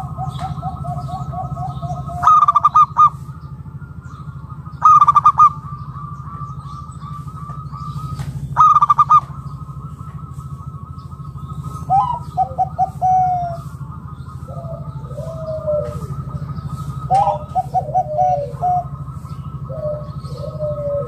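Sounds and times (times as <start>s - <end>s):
dove rapid staccato coos: 0.0s - 21.0s
dove soft continuous cooing: 0.0s - 21.0s.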